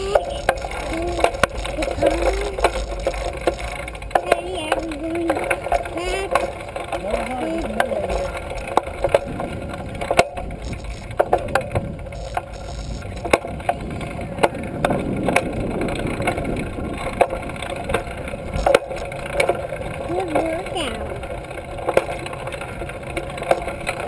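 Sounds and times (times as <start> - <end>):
bicycle frame rattling: 0.0 - 24.0
riding noise rumble: 0.0 - 24.0.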